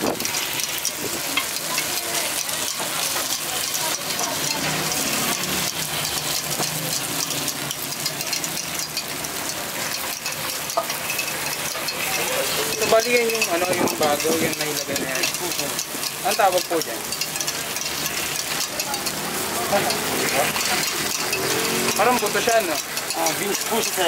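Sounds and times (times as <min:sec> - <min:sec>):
batter sizzling on griddle: 0:00.0 - 0:24.0.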